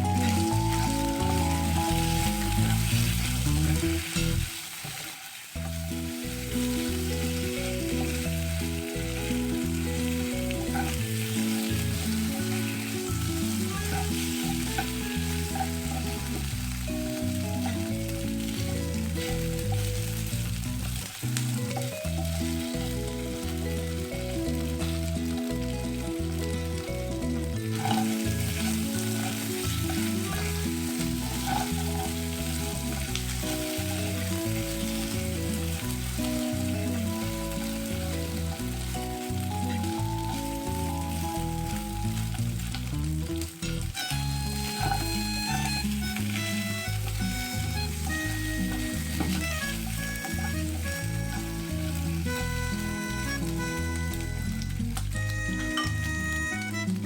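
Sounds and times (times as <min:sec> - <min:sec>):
background music: 0:00.0 - 0:04.6, 0:05.6 - 0:57.0
wings sizzling in hot oil: 0:00.0 - 0:57.0.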